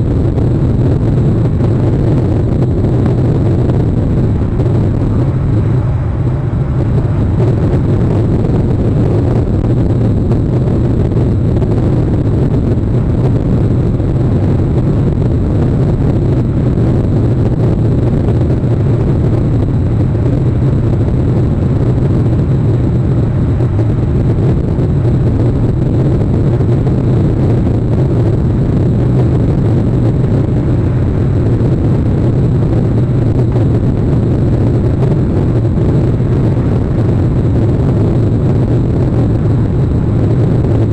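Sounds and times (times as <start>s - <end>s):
low outdoor rumble: 0.0s - 40.9s.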